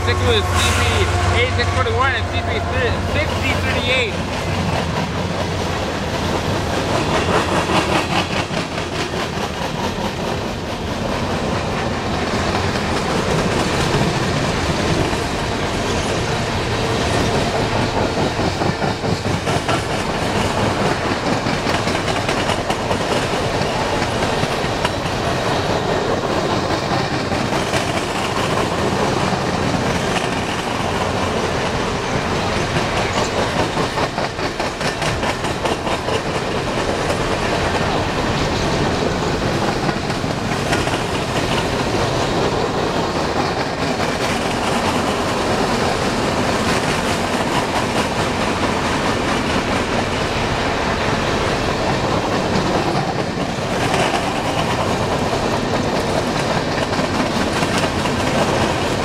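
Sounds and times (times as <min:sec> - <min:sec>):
train wheels rumbling on rail: 0:00.0 - 0:59.0
wheels clicking over rail joints: 0:04.1 - 0:59.0.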